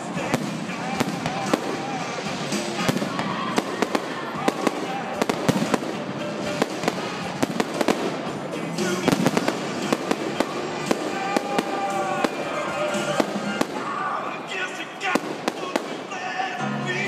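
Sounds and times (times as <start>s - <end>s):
fireworks bangs and crackles: 0.0s - 16.6s.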